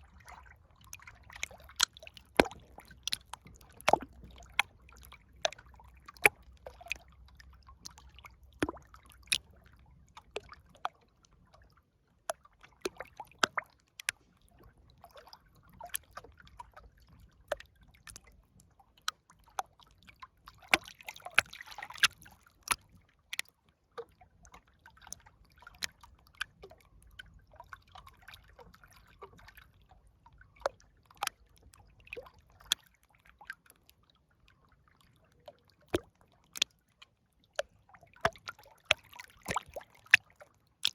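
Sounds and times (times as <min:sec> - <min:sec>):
river water trickling: 0:00.0 - 0:40.9
water drips and splashes: 0:00.0 - 0:40.9.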